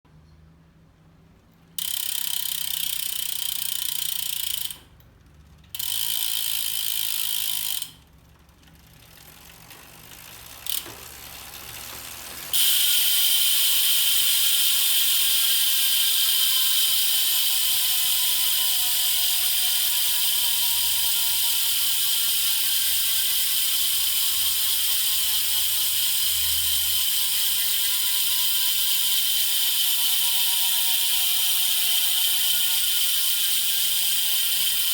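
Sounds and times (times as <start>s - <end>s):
bicycle freehub ratcheting buzz: 1.7s - 34.9s.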